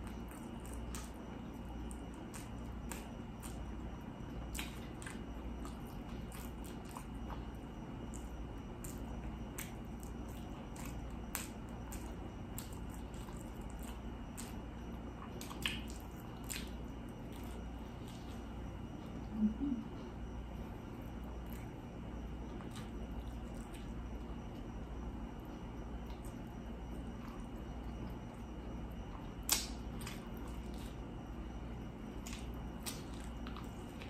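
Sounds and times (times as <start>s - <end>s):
steady low hum: 0.0s - 34.0s
wet chewing and mouth smacking: 0.0s - 34.0s.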